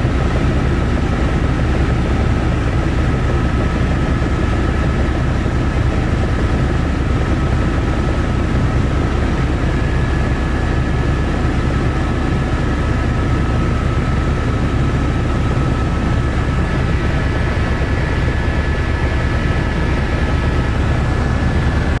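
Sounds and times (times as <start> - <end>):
helicopter rotor and engine: 0.0 - 22.0.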